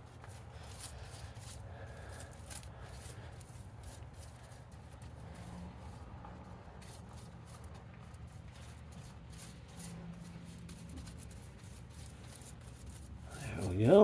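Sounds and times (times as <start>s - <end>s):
paintbrush dabbing and spreading: 0.0s - 14.0s.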